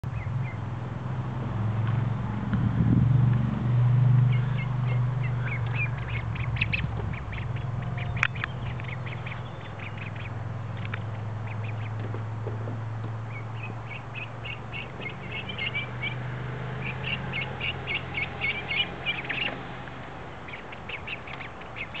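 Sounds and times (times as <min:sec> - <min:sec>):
ducklings peeping and quacking: 0:00.0 - 0:01.5, 0:03.6 - 0:22.0
steady low hum: 0:00.0 - 0:22.0.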